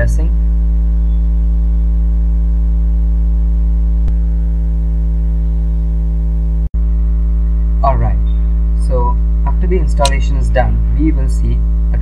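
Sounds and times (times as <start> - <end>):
buzzy electrical mains hum: 0.0 - 12.0.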